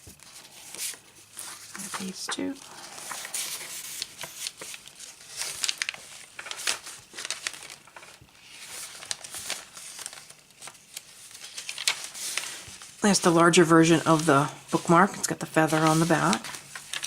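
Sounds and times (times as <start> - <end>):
paper rustling and crinkling: 0.0 - 17.0
crisp paper flicks: 0.1 - 13.0, 14.0 - 17.0.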